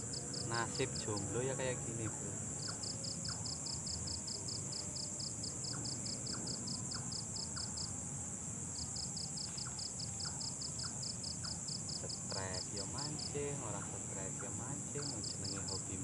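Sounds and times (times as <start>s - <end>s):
cricket chirping in fast pulse: 0.0s - 16.0s
insects droning: 0.0s - 16.0s.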